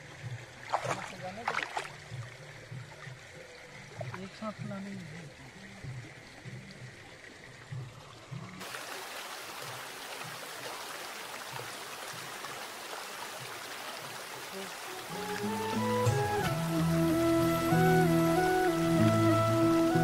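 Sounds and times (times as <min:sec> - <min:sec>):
outdoor ambience at a pond: 0:00.0 - 0:20.0.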